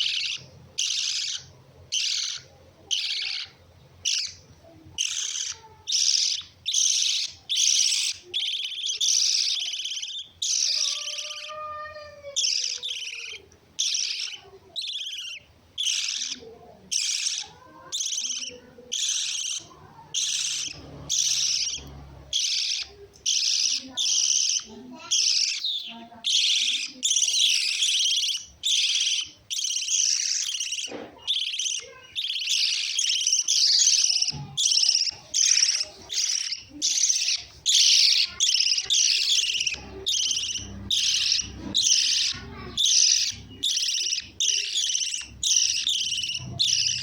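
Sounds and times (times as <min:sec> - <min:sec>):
harsh high bird chirps: 0:00.0 - 0:47.0.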